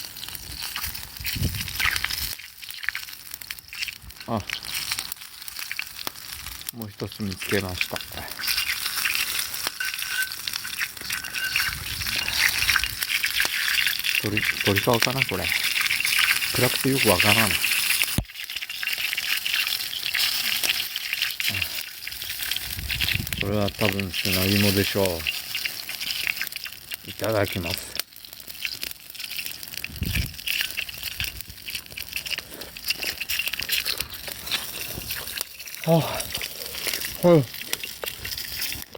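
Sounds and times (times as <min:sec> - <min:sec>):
chewing with crunching: 0:00.0 - 0:38.9
fire crackling: 0:00.0 - 0:38.9
meat sizzling over fire: 0:00.0 - 0:38.9.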